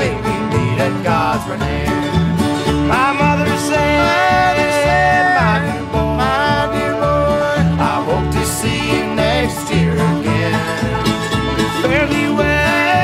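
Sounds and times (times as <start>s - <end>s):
fiddles playing melody: 0.0s - 13.0s
guitar: 0.0s - 13.0s
mandolin: 0.0s - 13.0s
upright bass: 0.0s - 13.0s.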